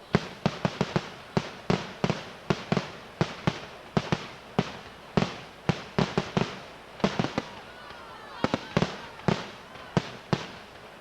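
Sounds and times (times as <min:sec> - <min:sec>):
fireworks bangs with echo: 0:00.0 - 0:07.8, 0:08.4 - 0:10.9.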